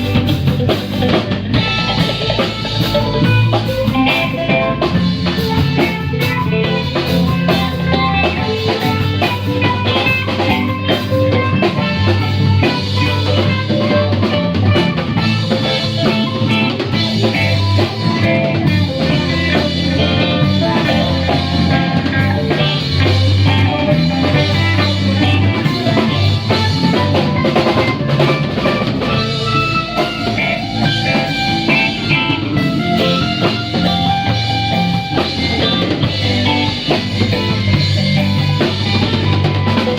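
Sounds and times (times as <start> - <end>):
bass notes: 0.0 - 39.9
drum kit: 0.0 - 39.9
electric guitar playing: 0.0 - 39.9.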